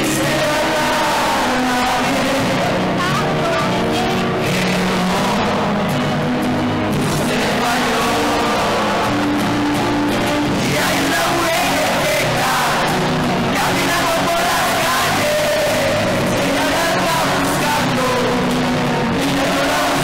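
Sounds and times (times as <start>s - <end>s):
live band playing: 0.0s - 20.0s
person singing: 0.0s - 20.0s.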